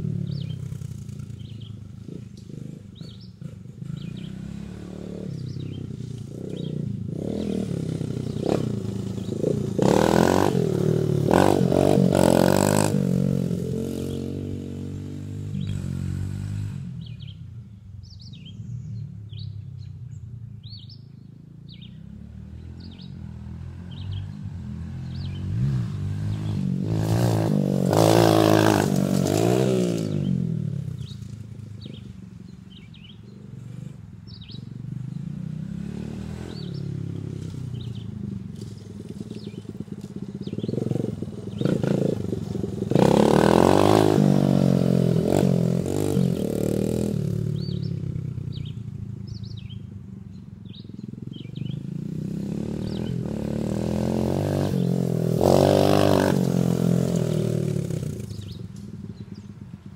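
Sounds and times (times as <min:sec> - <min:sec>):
birds chirping: 0:00.0 - 0:16.0, 0:16.9 - 0:59.9
dirt bike engine revving: 0:00.0 - 0:17.3, 0:21.8 - 0:49.8, 0:50.6 - 0:59.9.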